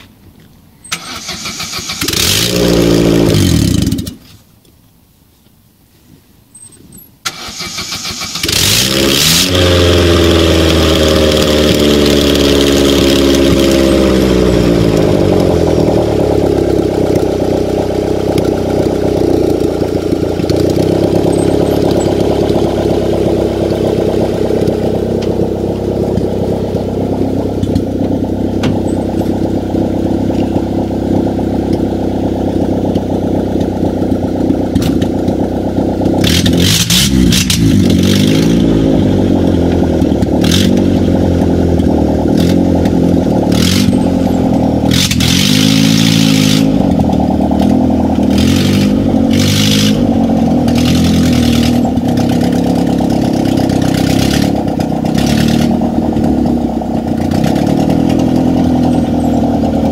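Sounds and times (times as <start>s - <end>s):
car engine starting and idling: 0.0s - 4.3s, 7.2s - 59.9s.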